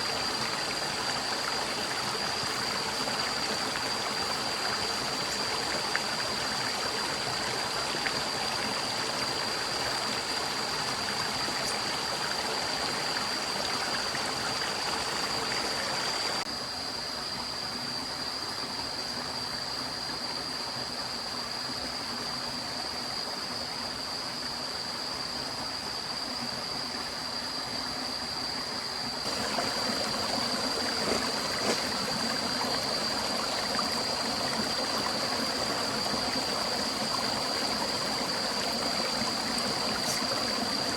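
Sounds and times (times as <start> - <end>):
stream water rushing and gurgling: 0.0 - 40.9.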